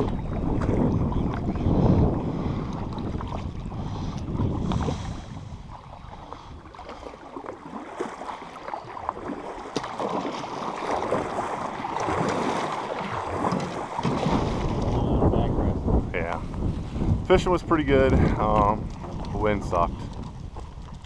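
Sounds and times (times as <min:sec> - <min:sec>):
wind rumble on microphone: 0:00.0 - 0:07.1, 0:10.8 - 0:21.0
canoe paddles splashing water: 0:00.0 - 0:21.0
water swishing along metal hull: 0:00.0 - 0:21.0.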